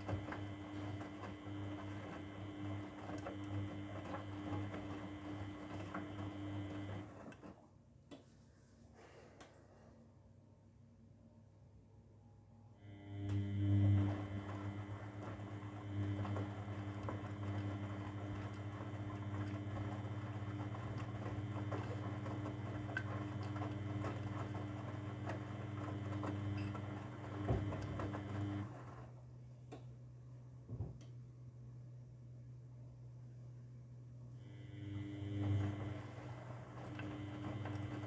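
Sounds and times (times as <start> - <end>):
washing machine motor hum: 0.0 - 7.6, 12.8 - 31.2, 31.9 - 38.0.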